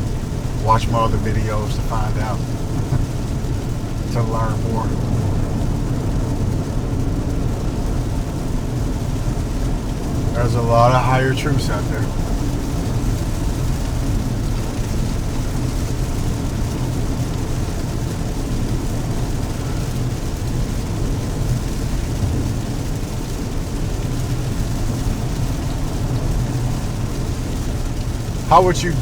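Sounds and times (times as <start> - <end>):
car cabin road and engine rumble: 0.0 - 29.0.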